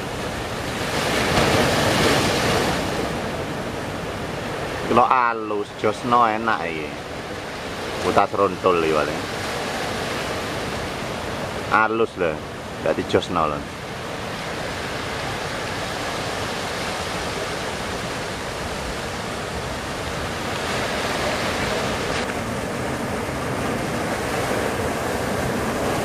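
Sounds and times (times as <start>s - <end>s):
waves and choppy sea water: 0.0s - 26.0s.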